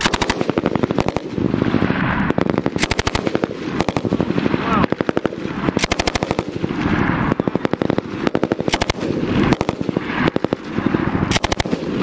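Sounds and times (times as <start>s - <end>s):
machine gun automatic bursts: 0.0s - 1.3s, 2.4s - 6.6s, 7.3s - 12.0s.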